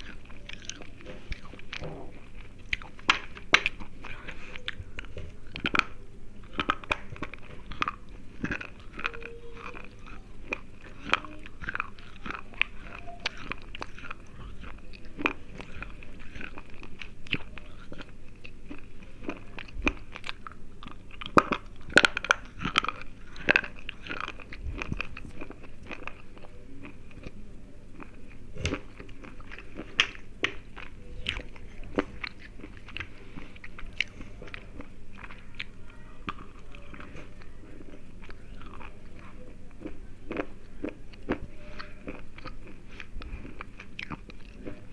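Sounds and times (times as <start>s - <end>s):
crunchy biting and chewing: 0.0s - 44.9s.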